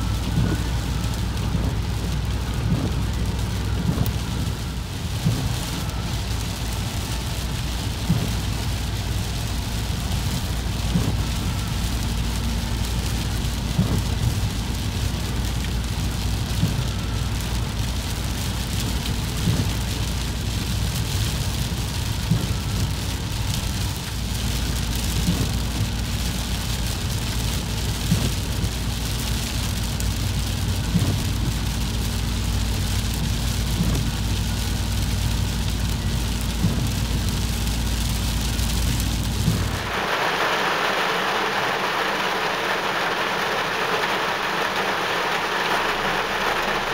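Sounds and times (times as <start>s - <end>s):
heavy rain hiss: 0.0s - 46.9s
steady low rumble: 0.0s - 46.9s.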